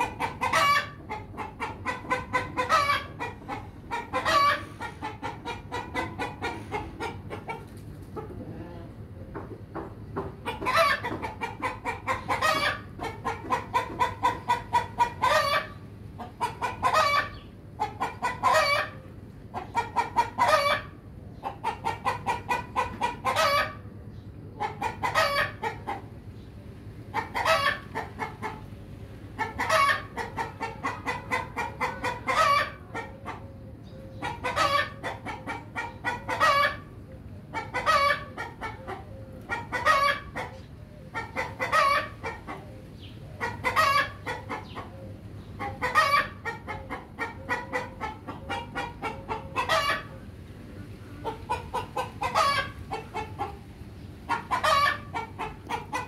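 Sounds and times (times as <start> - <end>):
rooster clucking: 0.0 - 56.0
steady low hum: 0.0 - 56.0.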